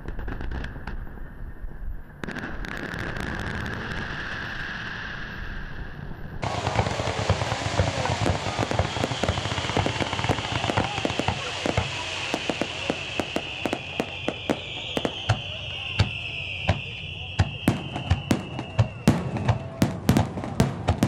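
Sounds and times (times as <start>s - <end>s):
fireworks crackling and banging: 0.0s - 1.2s, 2.2s - 4.7s, 6.4s - 21.0s.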